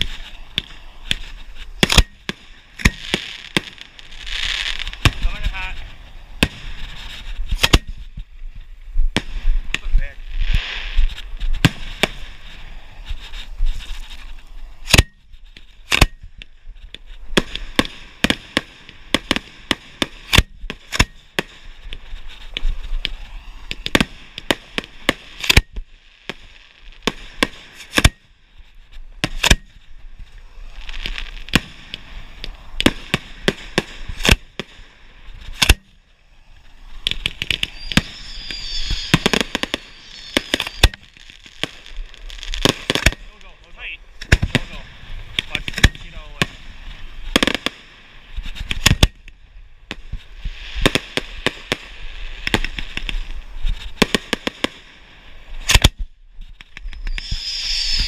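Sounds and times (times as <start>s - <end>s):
fireworks bangs: 0.0s - 58.0s
fireworks crackling hiss: 0.0s - 58.0s.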